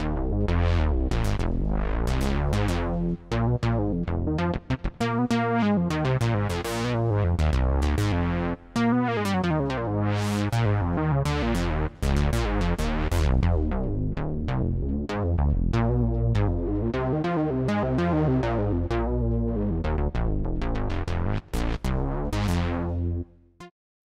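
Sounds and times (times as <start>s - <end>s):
synthesizer bass line: 0.0s - 23.3s.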